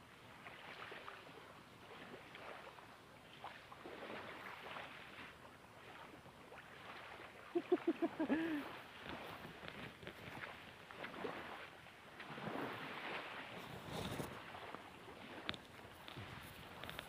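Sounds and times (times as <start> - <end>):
light wind: 0.0 - 17.0
waves lapping on gravel: 0.2 - 17.0.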